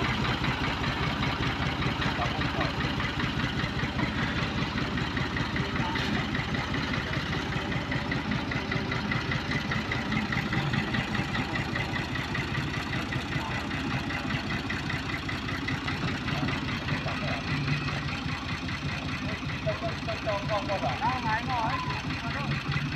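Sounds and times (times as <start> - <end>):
tractor engine chugging: 0.0 - 22.9.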